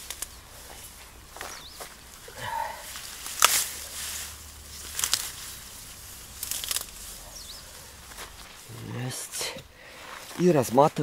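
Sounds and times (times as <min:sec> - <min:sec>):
grass rustling and tearing: 0:00.0 - 0:11.0.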